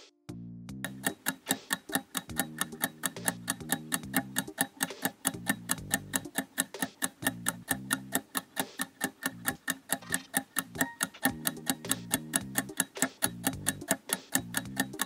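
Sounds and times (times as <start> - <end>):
quiet music with plucked notes: 0.0 - 8.2, 10.0 - 15.0
clock ticking rapidly: 0.7 - 15.0.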